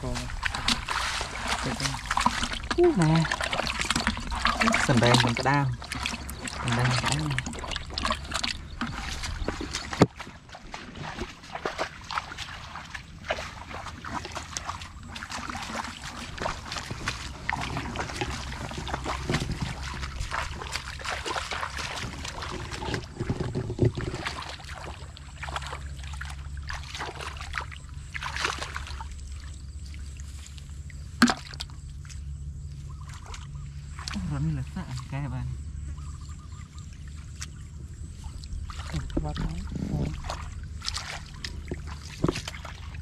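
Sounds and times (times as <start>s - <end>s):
feet sloshing through wet grass: 0.0s - 43.0s
steady low hum: 0.0s - 43.0s.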